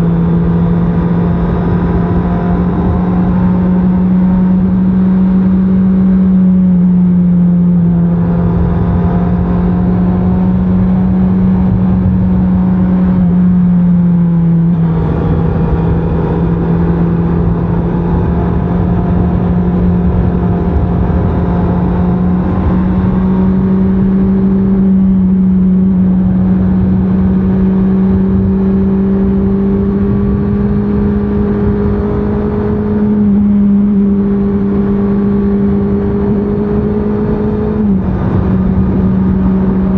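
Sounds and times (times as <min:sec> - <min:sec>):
motorcycle engine running: 0:00.0 - 0:39.9
constant rushing noise: 0:02.0 - 0:39.9.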